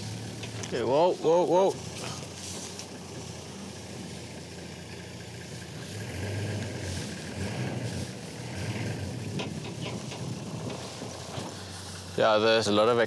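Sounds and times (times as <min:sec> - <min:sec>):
vehicle engine humming at low revs: 0:00.0 - 0:13.0.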